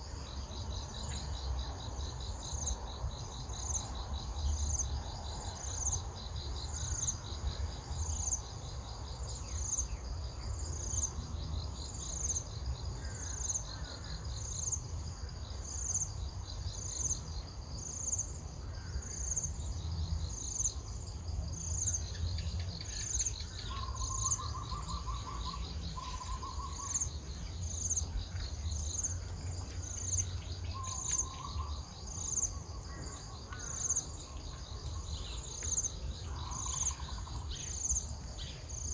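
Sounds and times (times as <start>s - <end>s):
continuous high insect trill: 0.0s - 38.9s
insect chirping: 0.0s - 38.9s.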